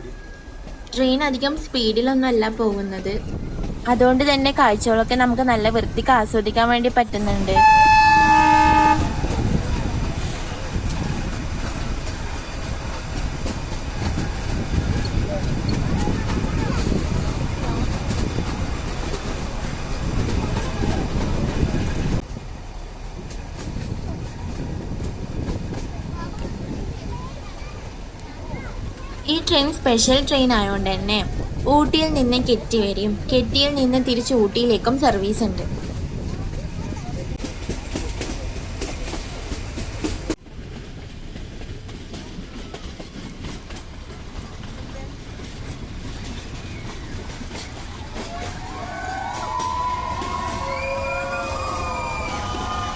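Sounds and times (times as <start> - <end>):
train wheels rumbling on track: 0.0 - 52.9.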